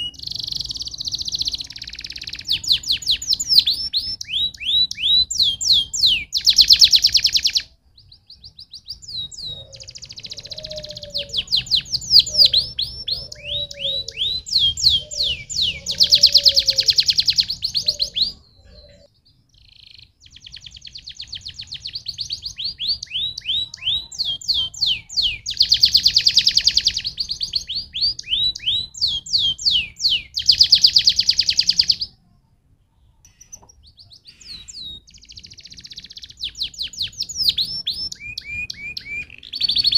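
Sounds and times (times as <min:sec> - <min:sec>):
canary singing: 0:00.0 - 0:32.2, 0:33.1 - 0:39.9.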